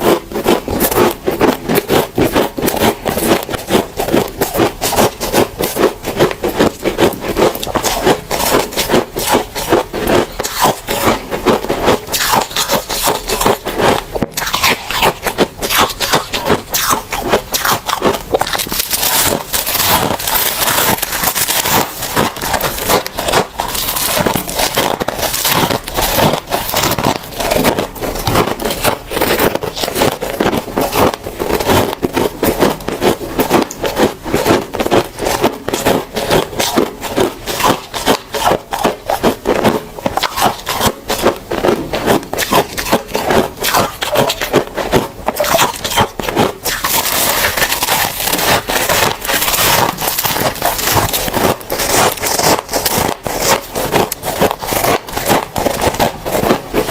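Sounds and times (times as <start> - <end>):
freezer frost crunching: 0.0 - 56.9.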